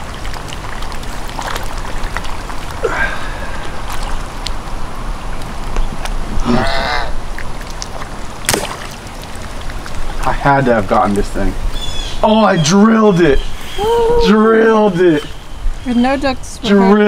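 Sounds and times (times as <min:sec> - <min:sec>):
background noise: 0:00.0 - 0:17.0.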